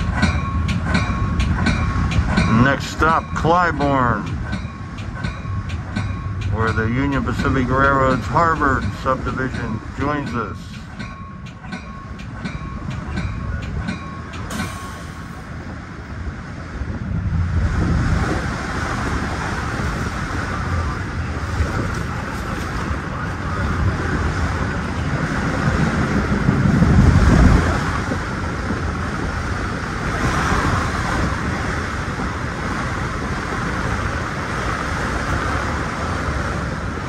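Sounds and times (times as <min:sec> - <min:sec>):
train running on rails: 0:00.0 - 0:37.0.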